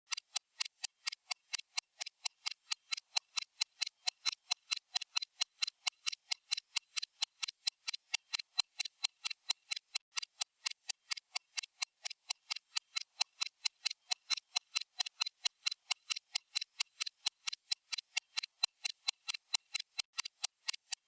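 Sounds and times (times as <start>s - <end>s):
stopwatch ticking: 0.1s - 21.0s.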